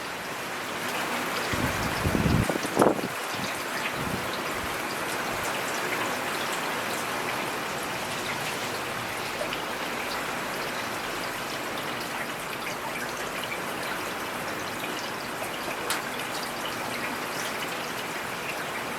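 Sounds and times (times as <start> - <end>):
steady rain falling: 0.0 - 18.9.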